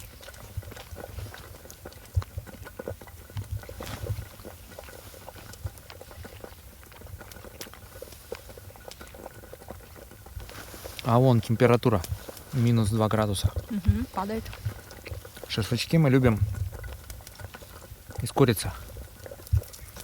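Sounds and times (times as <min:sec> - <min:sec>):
pot boiling and bubbling: 0:00.0 - 0:20.0.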